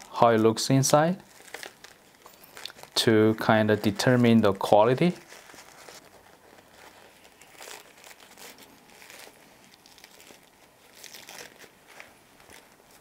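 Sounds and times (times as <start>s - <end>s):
tea bag paper crinkling: 0.0s - 13.0s.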